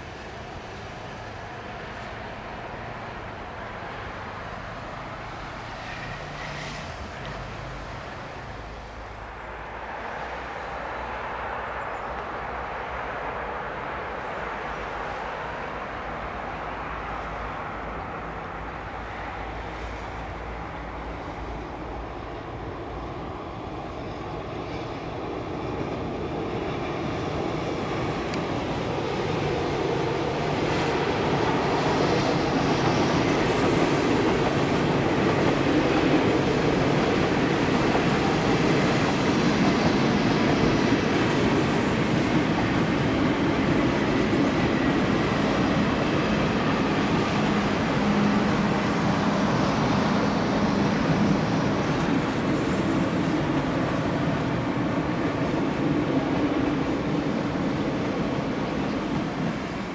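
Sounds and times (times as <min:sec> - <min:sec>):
train rolling over viaduct: 0:00.0 - 0:59.9.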